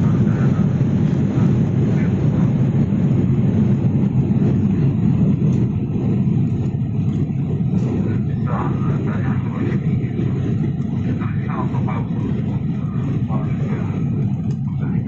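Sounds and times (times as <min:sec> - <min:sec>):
aircraft engines rumbling: 0:00.0 - 0:15.0.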